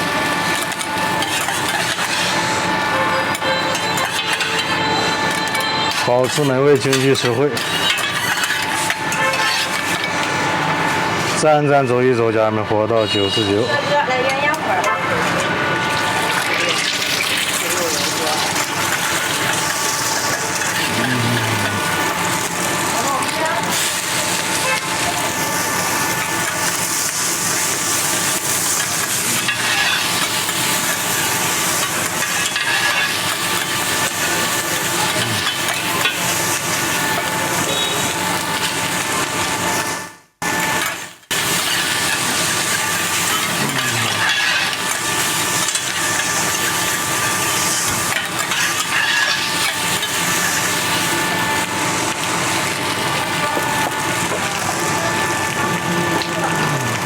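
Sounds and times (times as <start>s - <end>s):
noodles sizzling on a hot griddle: 0.0s - 11.4s, 12.8s - 57.0s.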